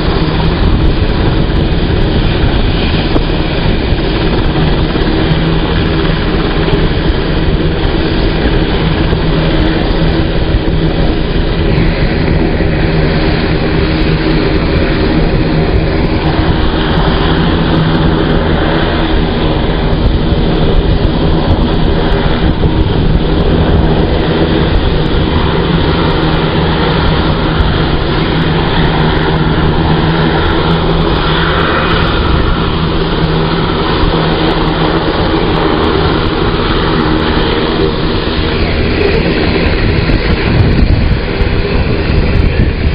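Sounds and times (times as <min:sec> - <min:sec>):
helicopter engines and rotors: 0:00.0 - 0:42.9.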